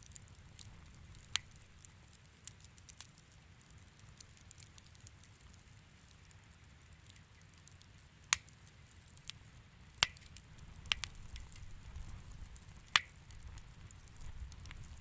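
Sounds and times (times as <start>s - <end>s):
sharp pops of fire: 0.0s - 5.6s, 7.0s - 9.4s, 10.0s - 15.0s
low rumble of fire: 0.0s - 15.0s
wood fire crackling: 0.0s - 15.0s.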